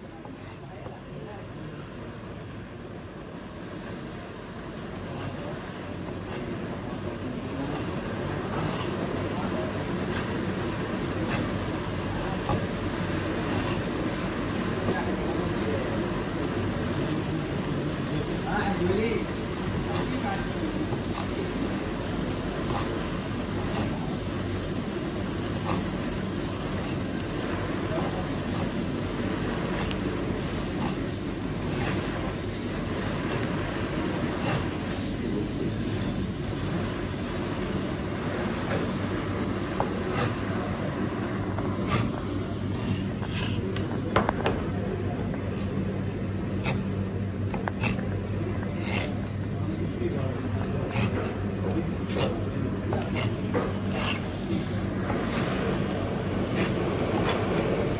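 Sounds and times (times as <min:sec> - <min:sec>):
gas burner flame roaring: 0:00.0 - 0:57.9
low mechanical hum: 0:00.0 - 0:57.9.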